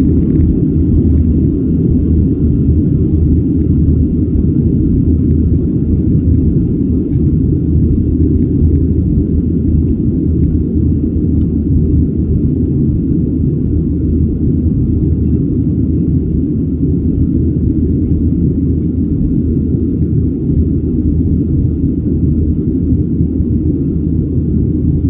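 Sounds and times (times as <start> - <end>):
distant airplane engines rumbling: 0.0 - 25.0.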